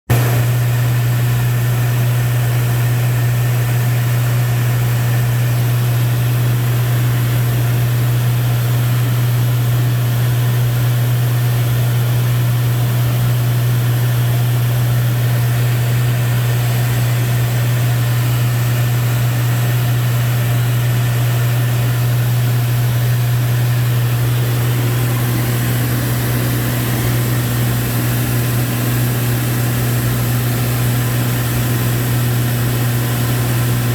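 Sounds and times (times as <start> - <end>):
aircraft engine drone: 0.1 - 33.9.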